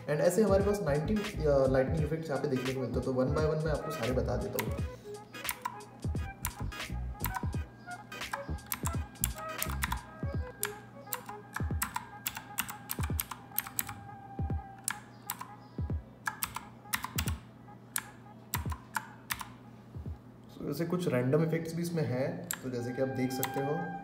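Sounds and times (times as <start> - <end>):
music: 0.0 - 20.2, 22.5 - 24.0.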